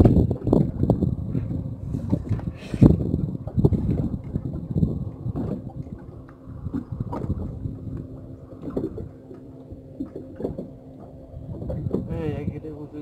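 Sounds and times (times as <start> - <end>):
faint steady hum: 0.0 - 13.0
water slapping boat: 0.0 - 13.0
wind on microphone: 0.0 - 13.0.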